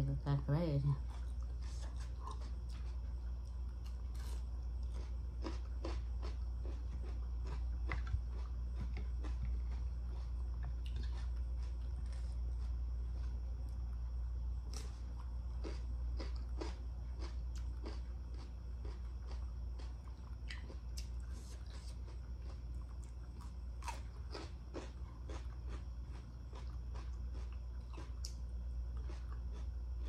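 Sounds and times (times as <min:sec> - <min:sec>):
low hum: 0:00.0 - 0:30.0
biting and chewing: 0:01.0 - 0:12.9, 0:14.7 - 0:30.0.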